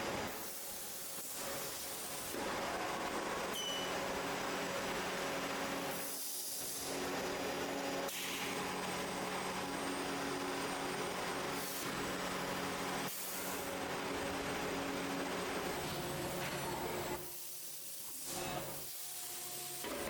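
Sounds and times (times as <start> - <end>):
factory machinery hum: 0.0 - 20.0.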